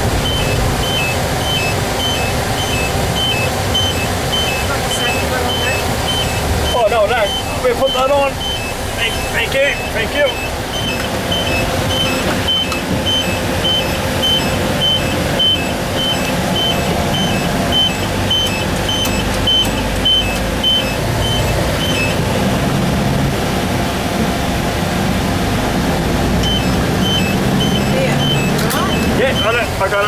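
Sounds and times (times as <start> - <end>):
truck engine and road noise: 0.0 - 30.0
high electronic beep: 0.2 - 22.2, 26.4 - 29.7.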